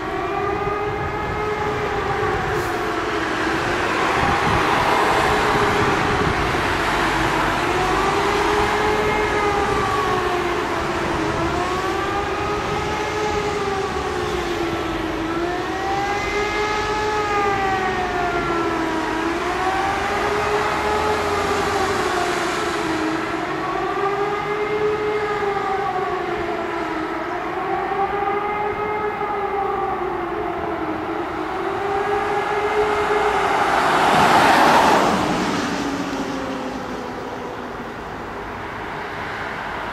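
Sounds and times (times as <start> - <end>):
warning sirens wailing: 0.0 - 39.9.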